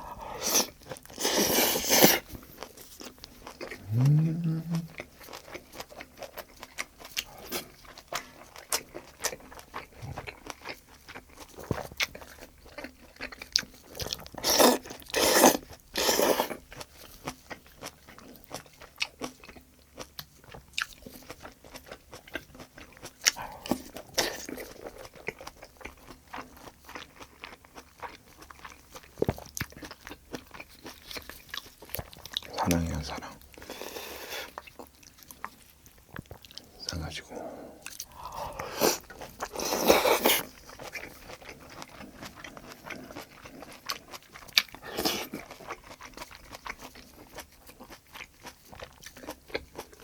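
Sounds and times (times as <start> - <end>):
person chewing and biting food: 0.0 - 50.0.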